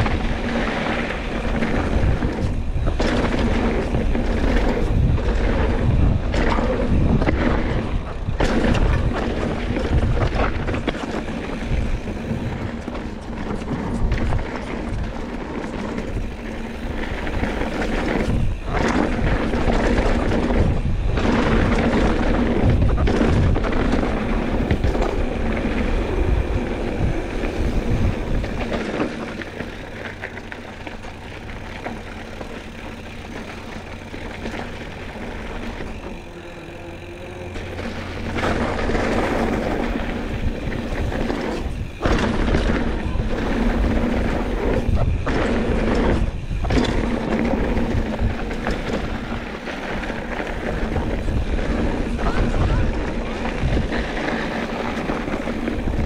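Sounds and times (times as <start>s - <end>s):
bike tyres rattling over dirt: 0.0s - 56.0s
wind buffeting microphone: 0.0s - 56.0s.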